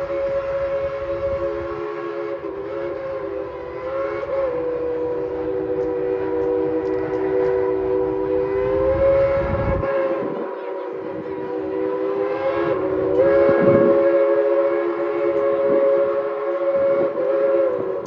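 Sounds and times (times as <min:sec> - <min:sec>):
rumble of moving train: 0:00.0 - 0:18.0
steam locomotive chime whistle: 0:00.0 - 0:18.0.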